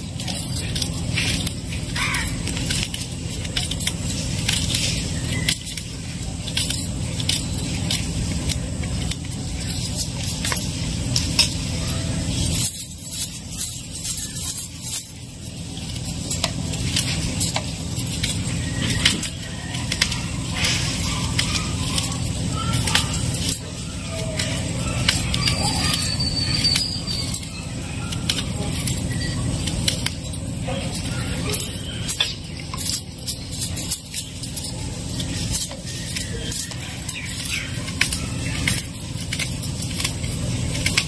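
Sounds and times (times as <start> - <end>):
bangles jingling: 0.0 - 41.0
steady low rumble: 0.0 - 41.0.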